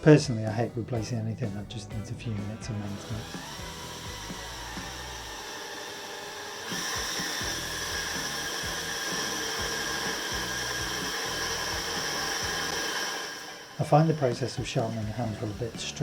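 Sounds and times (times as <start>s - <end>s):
drill sharpener grinding whine: 2.5s - 16.0s.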